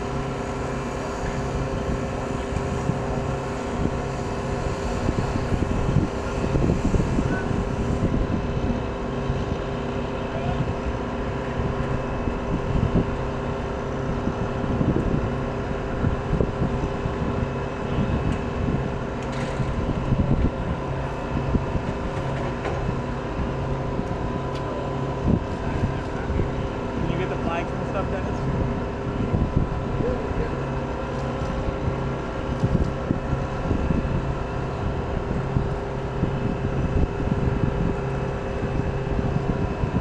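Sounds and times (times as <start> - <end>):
mechanical hum: 0.0 - 40.0.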